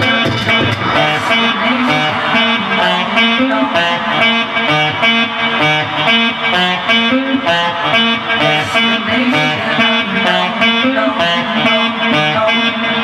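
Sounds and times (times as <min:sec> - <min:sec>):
music with steady beat and bass: 0:00.0 - 0:13.0.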